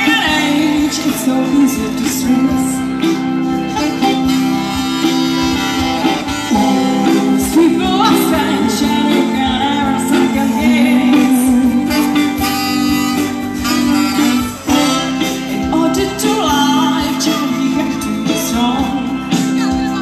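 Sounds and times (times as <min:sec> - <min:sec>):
person singing: 0:00.0 - 0:05.2, 0:06.0 - 0:20.0
brass band playing pop song: 0:00.0 - 0:20.0.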